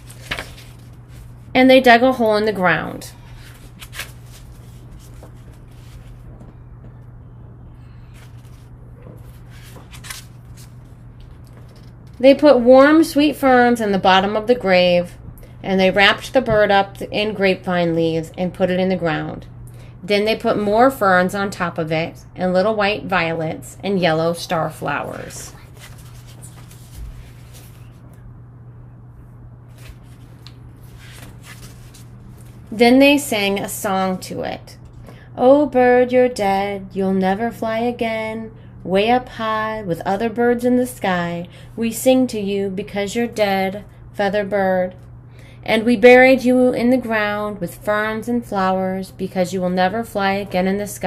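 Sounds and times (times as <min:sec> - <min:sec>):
low electrical hum: 0:00.0 - 0:51.0.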